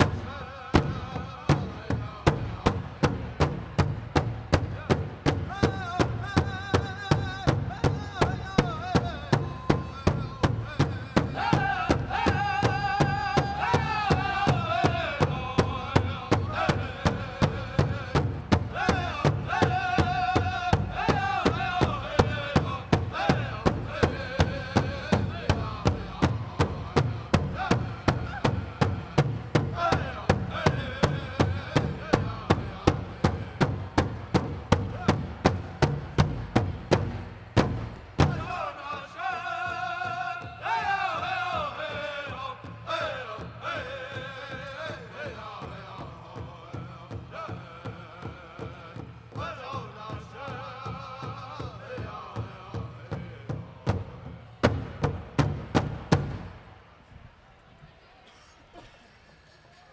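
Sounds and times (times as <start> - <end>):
large drum beating steadily: 0.0 - 57.0.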